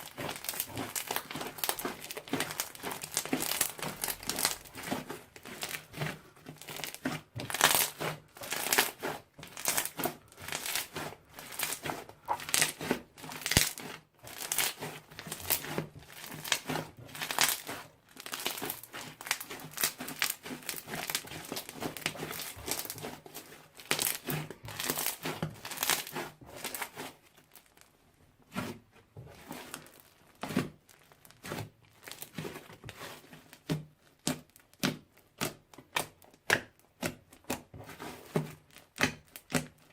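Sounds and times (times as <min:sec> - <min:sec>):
slime crackling and popping: 0:00.0 - 0:27.9, 0:29.6 - 0:37.7, 0:38.6 - 0:39.9.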